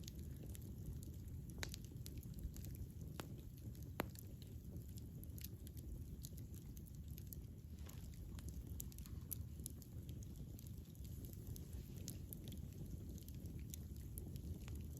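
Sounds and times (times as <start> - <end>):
fire crackling and popping: 0.0 - 14.9
low rumble of campfire: 0.0 - 14.9.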